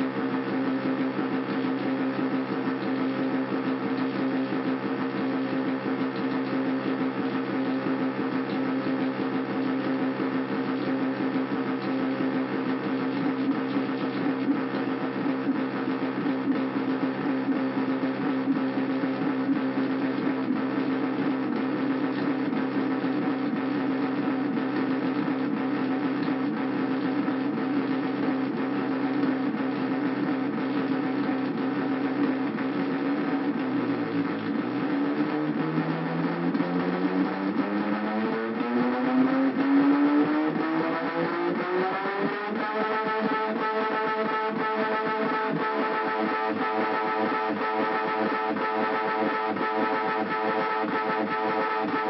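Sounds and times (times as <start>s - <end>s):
buzzing synthesizer drone: 0.0s - 52.0s.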